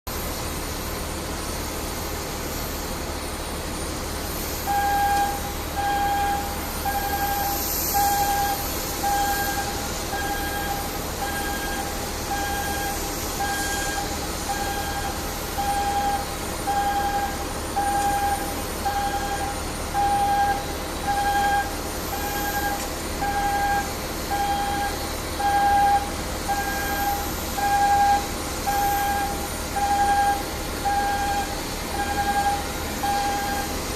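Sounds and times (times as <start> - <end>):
steady mechanical hum: 0.1 - 33.9
warning beeper: 4.7 - 33.8.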